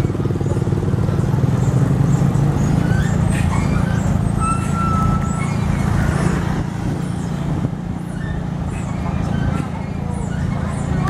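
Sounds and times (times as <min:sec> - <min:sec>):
diesel truck engines rumbling: 0:00.0 - 0:11.0.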